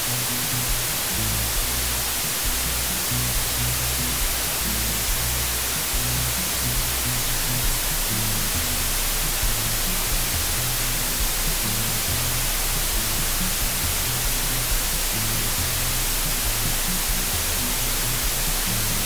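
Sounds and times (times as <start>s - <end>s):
low bass music: 0.0s - 19.0s
steady hiss: 0.0s - 19.0s.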